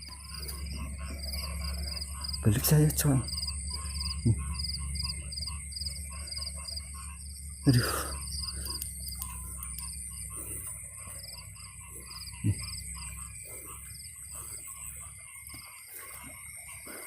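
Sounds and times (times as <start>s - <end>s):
frogs calling in pulsed trills: 0.0s - 17.0s
high insect drone: 0.0s - 17.0s
lower frog calls: 0.0s - 17.0s.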